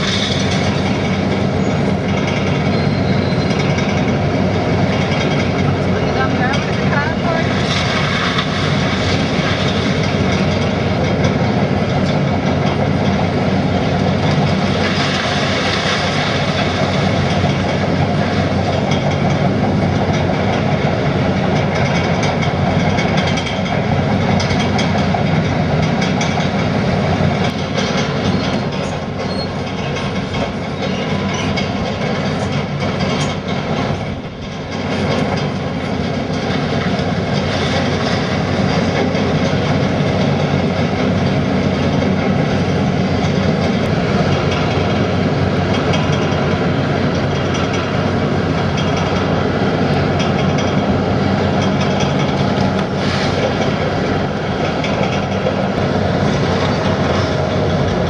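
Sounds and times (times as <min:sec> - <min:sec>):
heavy demolition machinery running: 0:00.0 - 0:58.0.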